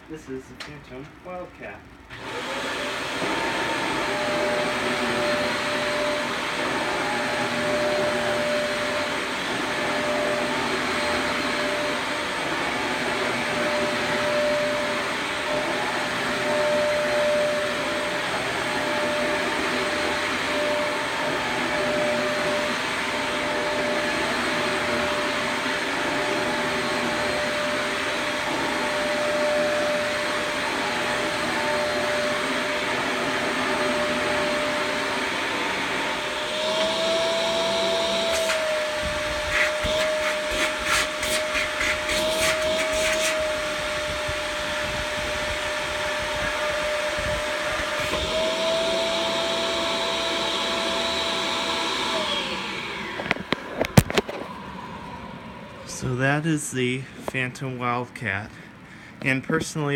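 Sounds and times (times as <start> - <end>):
vacuum cleaner motor whine: 1.6 - 58.0.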